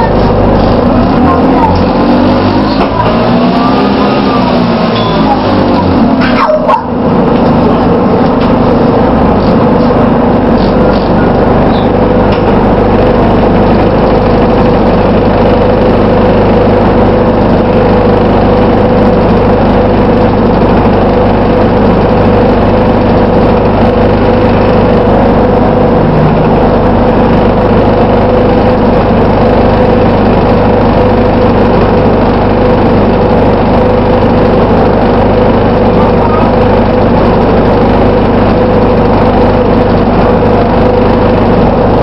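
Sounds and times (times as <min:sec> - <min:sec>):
bus diesel engine running: 0:00.0 - 0:42.0
constant whirring tone: 0:00.0 - 0:42.0.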